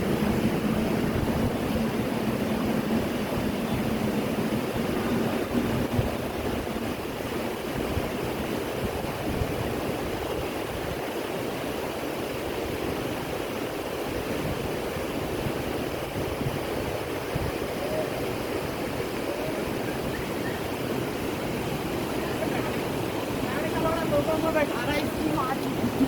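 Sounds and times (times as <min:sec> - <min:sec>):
mountain river gushing: 0:00.0 - 0:26.0.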